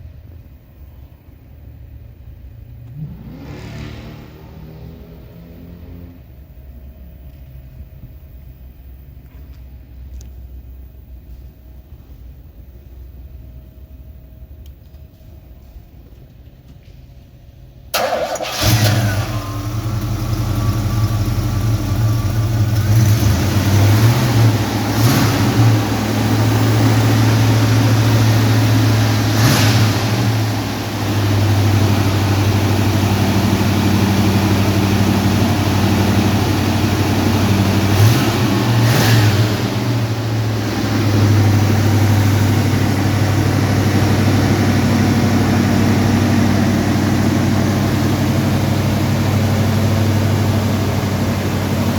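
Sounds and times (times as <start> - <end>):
truck engine starting and idling: 0.0 - 9.0, 10.1 - 51.9.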